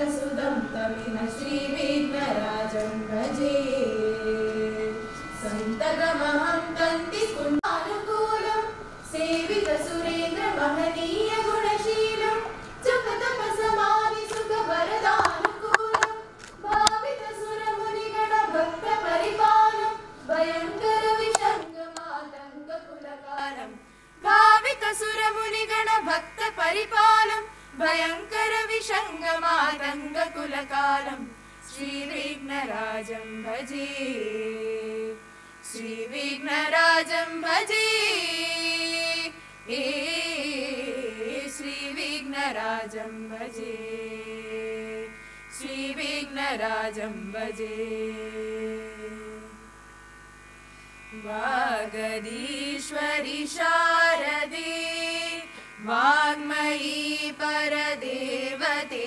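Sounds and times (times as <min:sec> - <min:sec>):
women singing a hymn: 0:00.0 - 0:49.6, 0:51.1 - 0:59.0.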